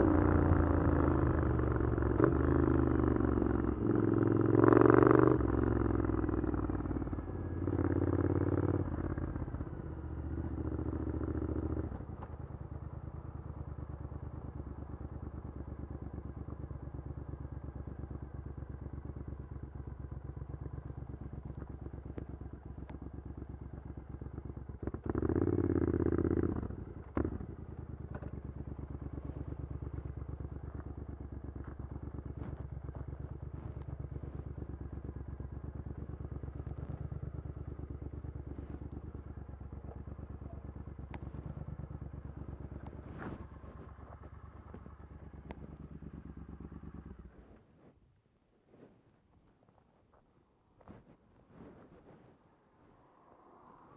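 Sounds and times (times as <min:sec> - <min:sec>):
motorcycle engine revving and idling: 0:00.0 - 0:48.0.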